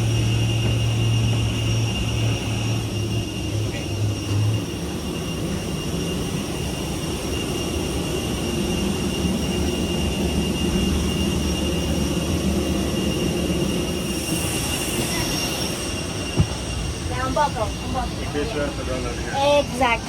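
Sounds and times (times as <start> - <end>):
aircraft cabin hum: 0.0 - 14.2, 15.1 - 20.0
high-pitched whine tones: 0.0 - 20.0.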